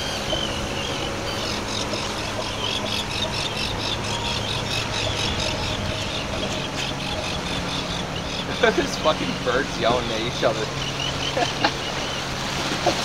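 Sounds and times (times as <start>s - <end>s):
outboard motor humming: 0.0s - 13.0s
seabirds calling shrilly: 0.0s - 13.0s
water washing: 0.0s - 13.0s
wind: 0.0s - 13.0s.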